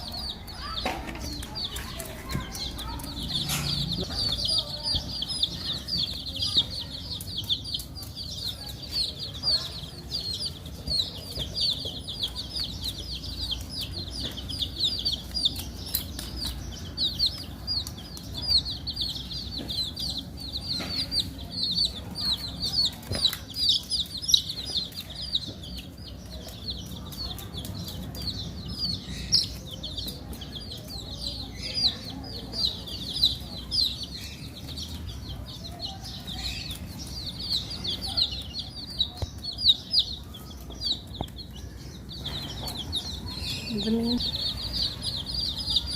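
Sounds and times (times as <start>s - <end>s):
baby chicks peeping: 0.0s - 45.9s.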